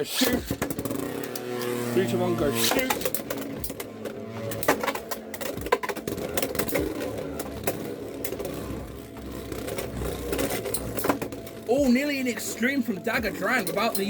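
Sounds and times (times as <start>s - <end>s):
spinning tops whirring: 0.1s - 14.0s.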